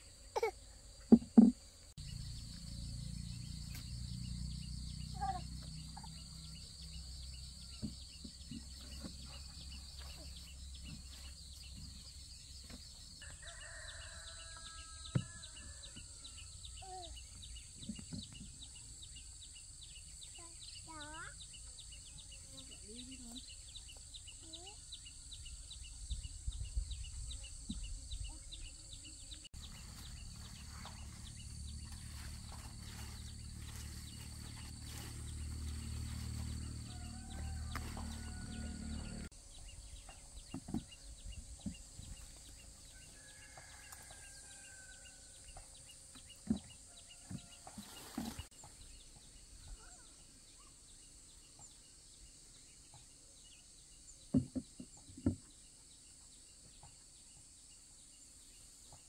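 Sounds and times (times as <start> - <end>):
insects droning and chirping: 0.0 - 50.1.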